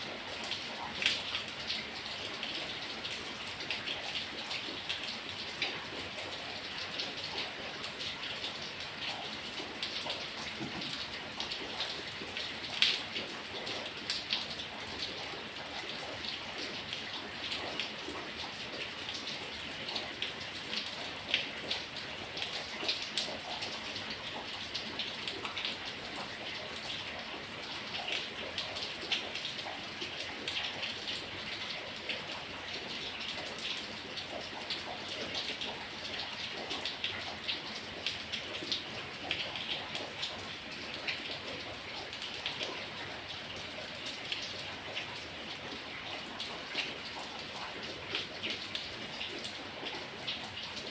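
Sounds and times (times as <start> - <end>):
raindrops pattering: 0.0 - 50.9.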